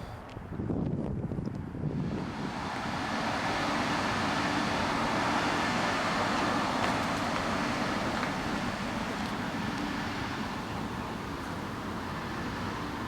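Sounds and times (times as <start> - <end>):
truck engine running: 1.9 - 13.0.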